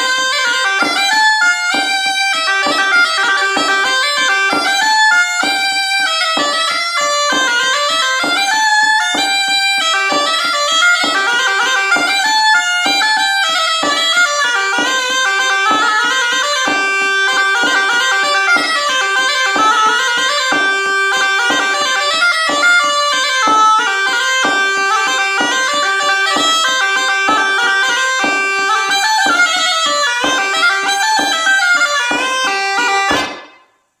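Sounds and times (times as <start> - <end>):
bagpipe dance tune: 0.0 - 34.0.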